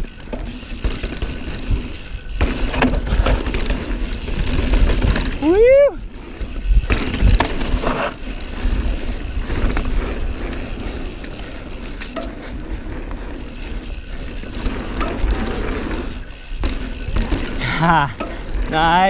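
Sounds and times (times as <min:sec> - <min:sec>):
bike tyres rushing on dirt: 0:00.0 - 0:19.0.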